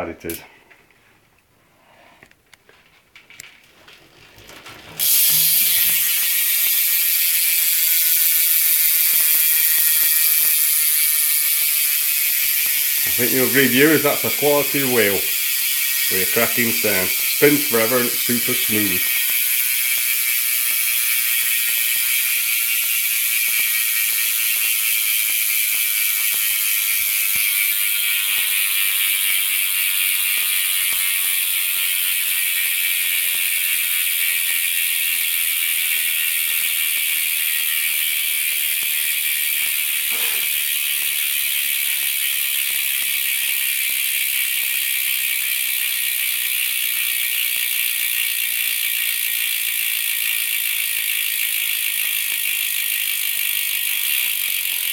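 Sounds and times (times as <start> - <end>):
bike hub ratchet buzzing: 5.0 - 54.9.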